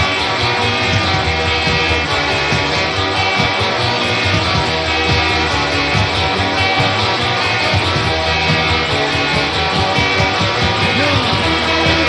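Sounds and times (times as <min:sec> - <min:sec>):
bass guitar: 0:00.0 - 0:12.0
distorted electric guitar: 0:00.0 - 0:12.0
drums: 0:00.0 - 0:12.0.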